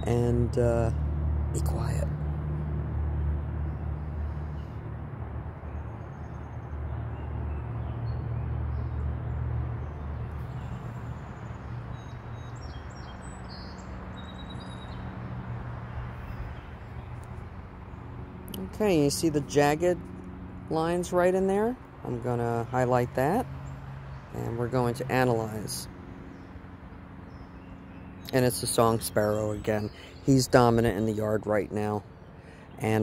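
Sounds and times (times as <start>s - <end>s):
sparrow singing: 5.6s - 33.0s.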